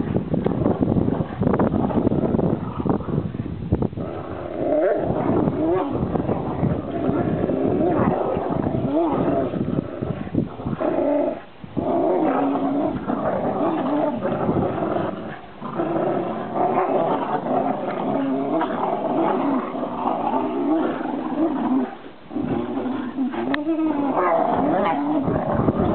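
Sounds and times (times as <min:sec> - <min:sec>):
dogs play-growling: 0:00.0 - 0:25.9.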